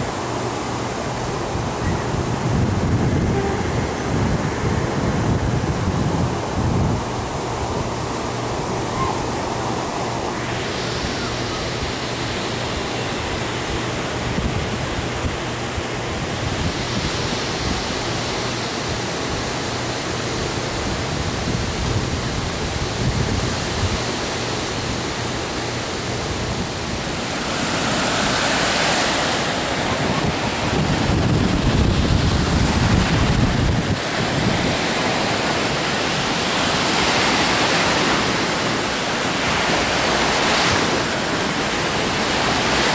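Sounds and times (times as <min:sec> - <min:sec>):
surf washing on sandy shore: 0:00.0 - 0:42.9
wind buffeting microphone: 0:00.9 - 0:24.2, 0:24.8 - 0:42.9.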